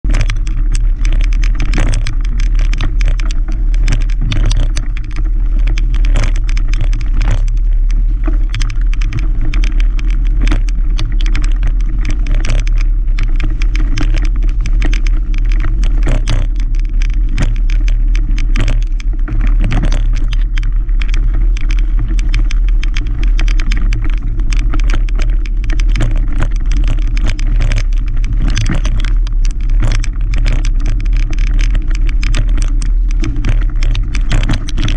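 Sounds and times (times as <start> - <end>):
bike rattling and clicking: 0.0 - 34.9
bike tyres rumbling on dirt trail: 0.0 - 34.9.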